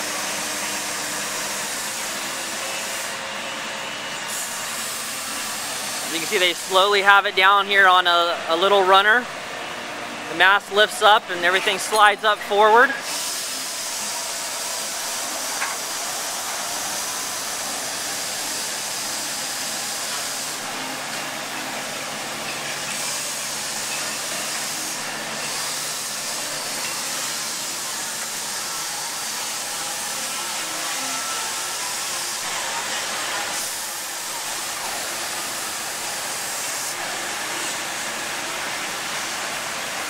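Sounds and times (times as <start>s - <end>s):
crane machinery hissing: 0.0s - 40.0s.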